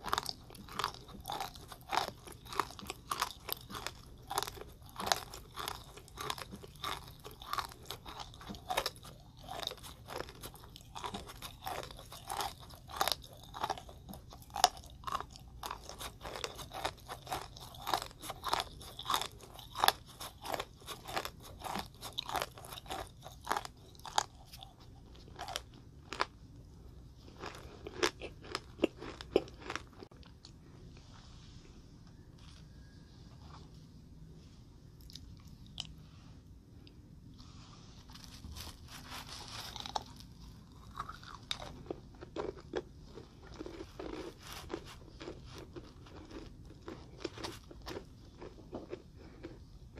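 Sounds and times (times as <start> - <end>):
crunchy candy chewing: 0.0 - 30.7, 37.4 - 49.9.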